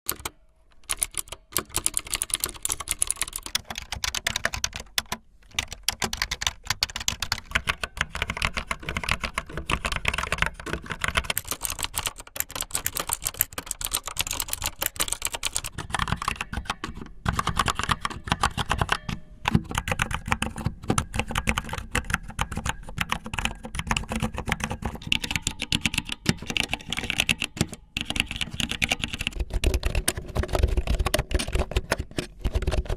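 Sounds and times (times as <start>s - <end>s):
fingernails tapping keys: 0.0s - 32.9s
fast typing on keyboard: 0.1s - 32.9s.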